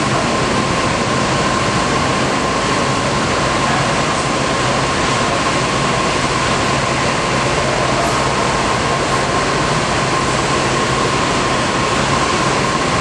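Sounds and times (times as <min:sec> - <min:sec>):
high-pitched machine whine: 0:00.0 - 0:13.0
low machine hum: 0:00.0 - 0:13.0.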